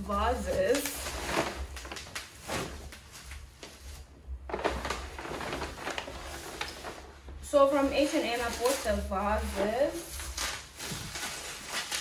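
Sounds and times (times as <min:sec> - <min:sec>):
bubble wrap crinkling: 0:00.0 - 0:12.0
paper bag rustling: 0:00.0 - 0:12.0.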